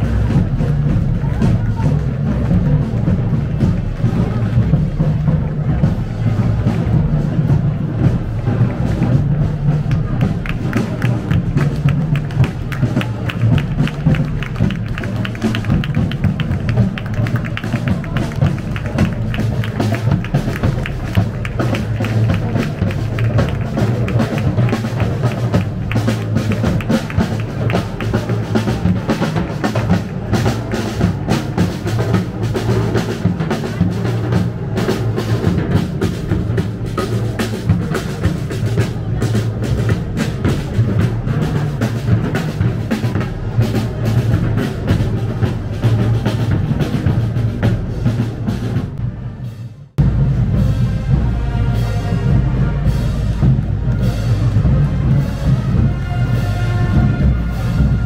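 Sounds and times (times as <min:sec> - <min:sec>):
heavy bass drum: 0:00.0 - 0:58.0
parade band playing: 0:00.0 - 0:58.0.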